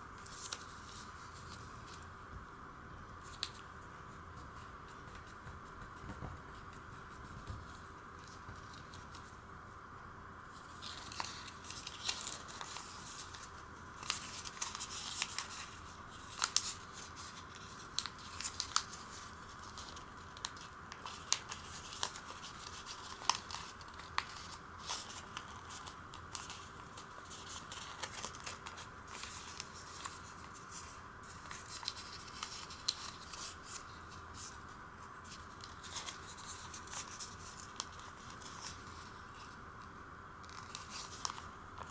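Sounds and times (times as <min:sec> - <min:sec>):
paper rustling and crinkling: 0:00.2 - 0:02.1, 0:03.2 - 0:09.4, 0:10.5 - 0:41.9.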